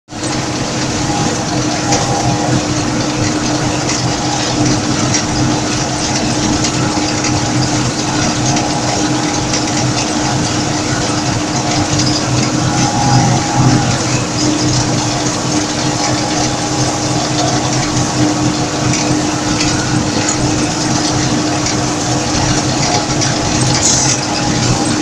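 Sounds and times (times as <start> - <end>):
combine harvester drone: 0.1 - 25.0.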